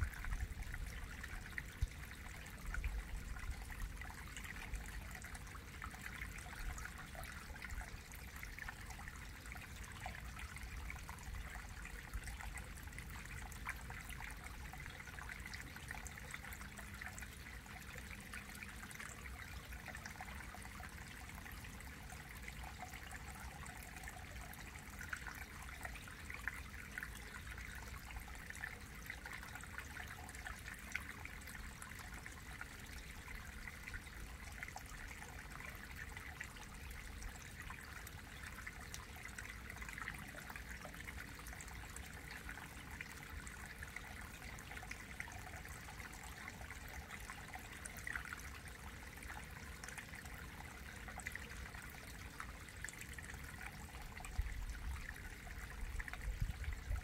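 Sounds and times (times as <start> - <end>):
stream water babbling over rocks: 0.0 - 57.0.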